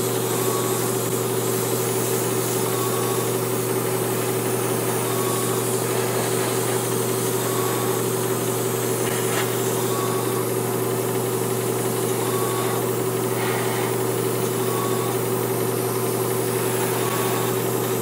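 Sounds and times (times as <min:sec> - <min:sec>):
air compressor humming: 0:00.0 - 0:18.0
airbrush hissing: 0:00.0 - 0:18.0.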